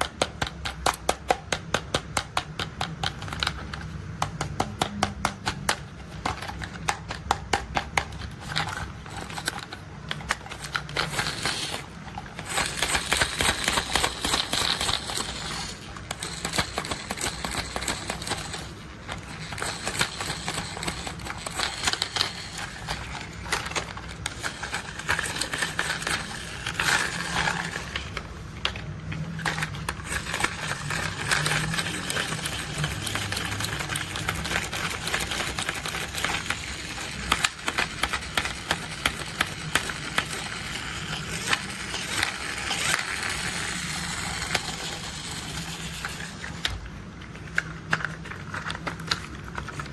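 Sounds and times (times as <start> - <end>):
plastic toys clicking and rattling: 0.0 - 49.9.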